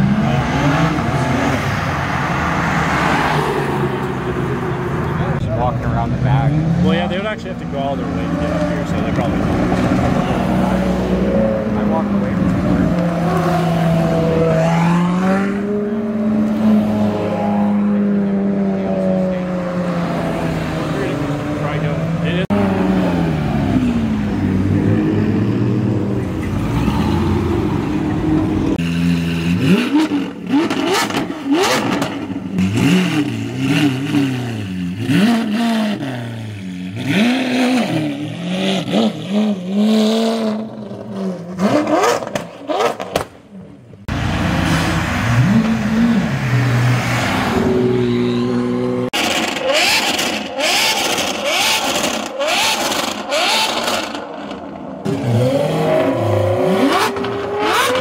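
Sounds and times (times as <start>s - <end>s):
sports car engines revving: 0.0s - 58.0s.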